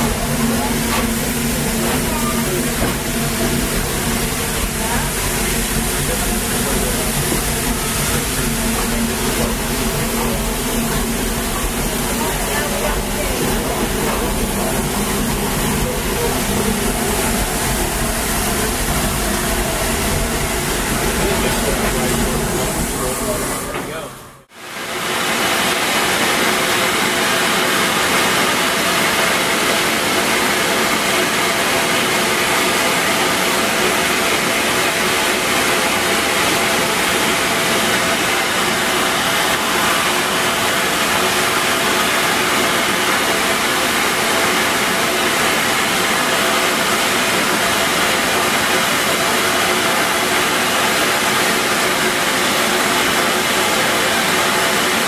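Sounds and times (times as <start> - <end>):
steam train rushing noise: 0.0 - 55.0.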